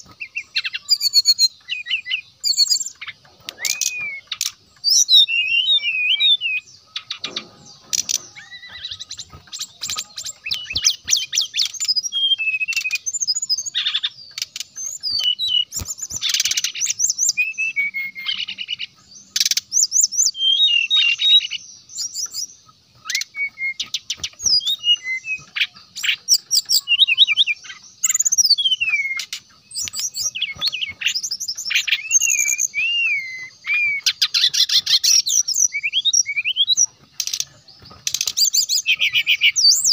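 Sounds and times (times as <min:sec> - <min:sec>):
bird singing chattering trills: 0:00.0 - 0:39.9.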